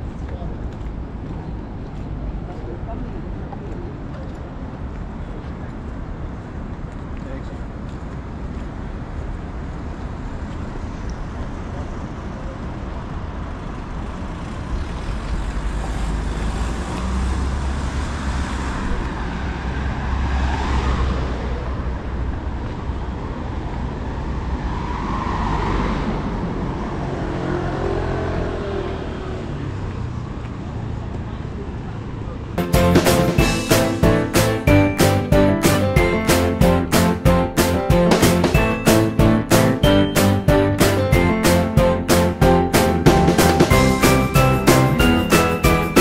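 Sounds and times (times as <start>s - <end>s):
road traffic rumble: 0.0s - 46.0s
vehicles passing: 0.0s - 46.0s.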